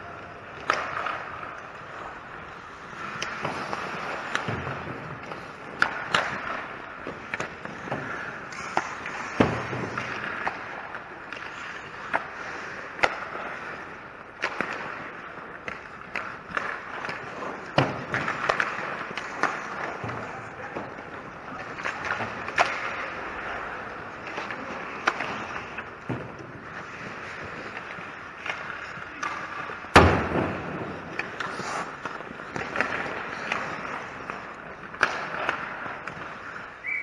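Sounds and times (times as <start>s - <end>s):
hockey sticks and puck clacking: 0.0s - 37.0s
skate blades scraping ice: 0.0s - 37.0s.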